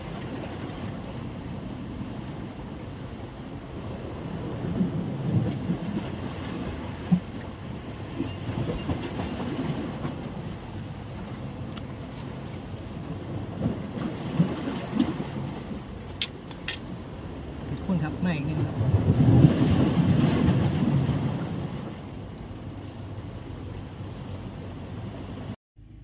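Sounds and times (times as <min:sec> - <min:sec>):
wind buffeting microphone: 0:00.0 - 0:25.6.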